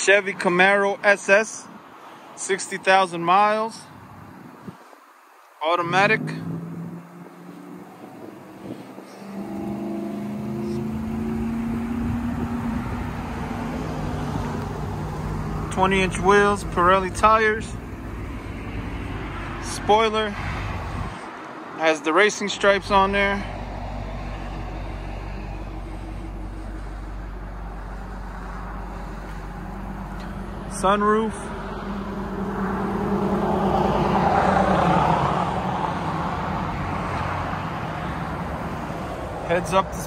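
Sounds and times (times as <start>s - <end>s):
vehicle engine humming: 3.9s - 40.0s.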